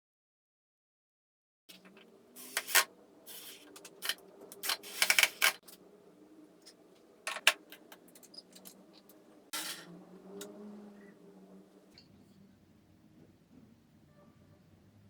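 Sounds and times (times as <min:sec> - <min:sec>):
steady low hum: 0:01.7 - 0:15.0.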